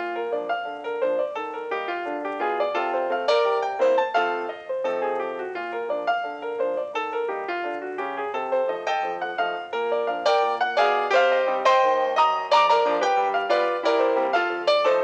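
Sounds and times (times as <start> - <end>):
ragtime piano tune: 0.0 - 15.0.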